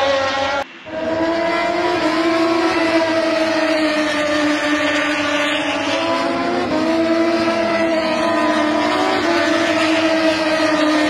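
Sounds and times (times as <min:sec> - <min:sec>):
racing motorcycle engines high revs: 0:00.0 - 0:11.0.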